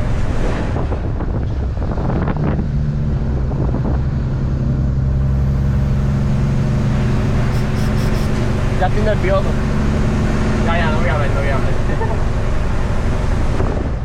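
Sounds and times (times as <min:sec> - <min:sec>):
diesel truck engine droning: 0:00.0 - 0:14.0
road noise: 0:00.0 - 0:14.0.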